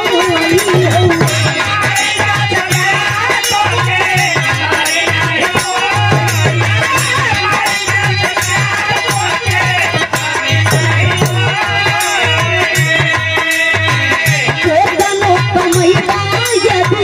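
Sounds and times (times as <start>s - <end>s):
jingling percussion: 0.0s - 17.0s
men singing into microphones: 0.0s - 17.0s
steady drum beat: 0.0s - 17.0s.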